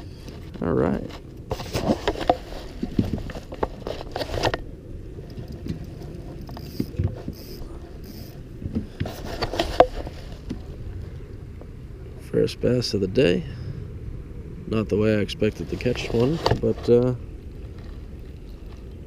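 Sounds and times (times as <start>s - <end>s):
fish handling in a kayak: 0.0s - 12.1s, 15.6s - 19.0s.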